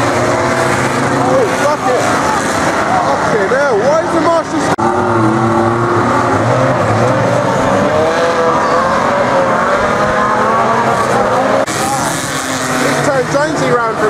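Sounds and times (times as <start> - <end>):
car engines revving hard: 0.0 - 14.0.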